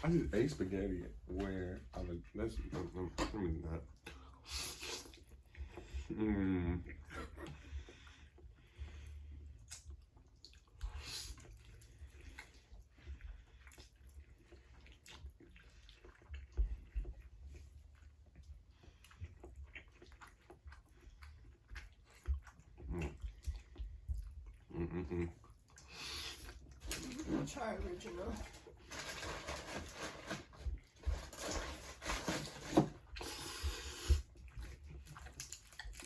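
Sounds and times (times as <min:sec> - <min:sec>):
people chewing food: 0:00.0 - 0:36.0.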